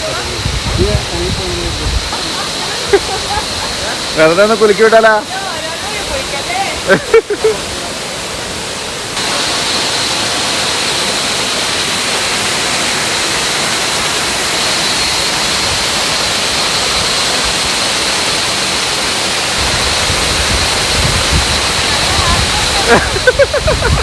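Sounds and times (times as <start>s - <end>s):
stream water flowing: 0.0s - 24.0s.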